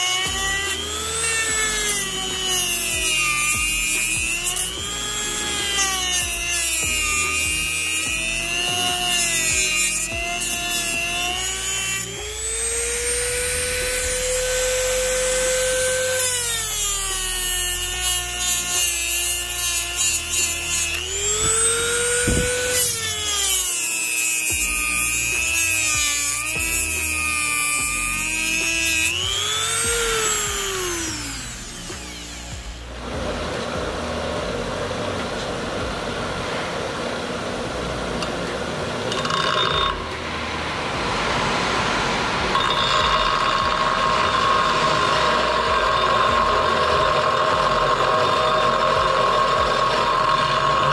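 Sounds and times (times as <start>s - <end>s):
rotary tool grinding metal: 0.0s - 34.2s, 39.0s - 40.2s, 42.5s - 50.9s.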